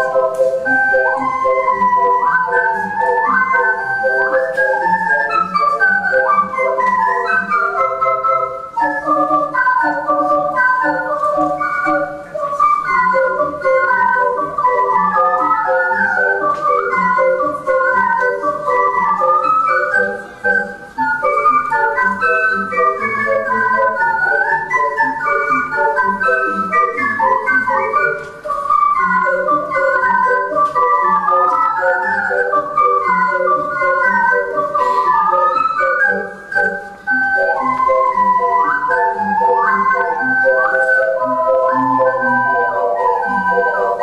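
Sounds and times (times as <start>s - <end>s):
ocarina ensemble playing polka: 0.0s - 44.0s.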